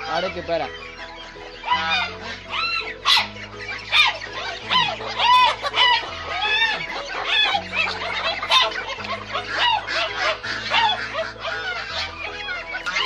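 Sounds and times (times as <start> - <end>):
hens clucking and squawking: 0.0 - 13.0.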